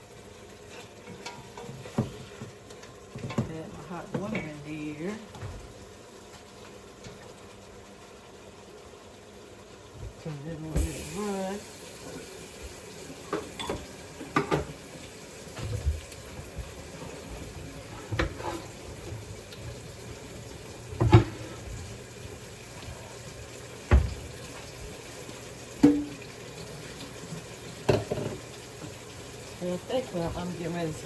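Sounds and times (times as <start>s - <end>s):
tap water running: 0.0s - 31.0s.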